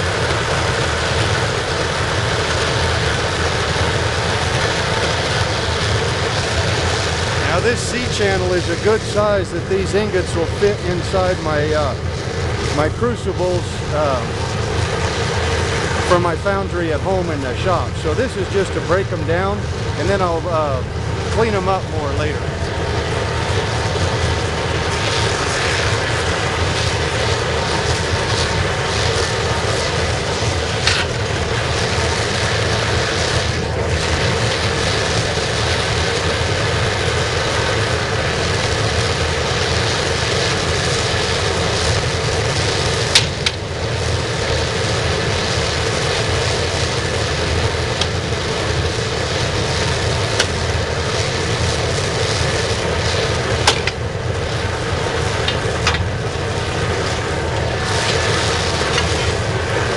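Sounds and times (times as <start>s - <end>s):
burner flame roaring: 0.0s - 59.9s.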